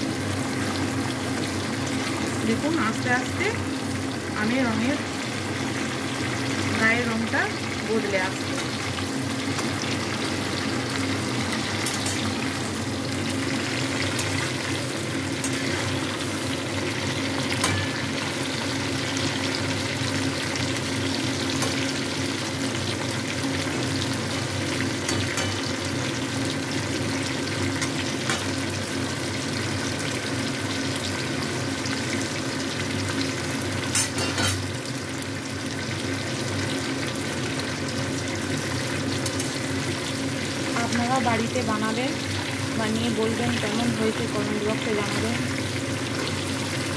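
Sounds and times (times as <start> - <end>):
mango sizzling in oil: 0.0 - 46.9.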